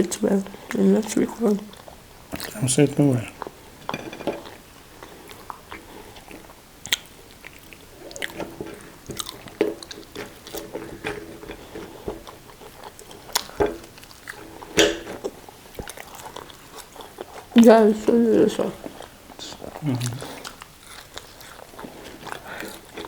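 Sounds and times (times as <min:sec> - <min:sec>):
people chewing food: 0:00.0 - 0:23.0.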